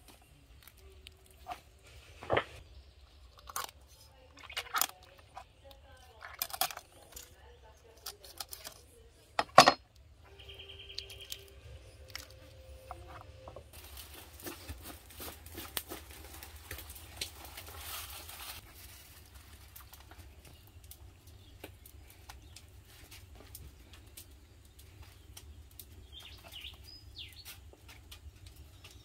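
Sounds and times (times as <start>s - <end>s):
leaves and foil crinkling: 0.0s - 9.3s, 10.3s - 29.0s.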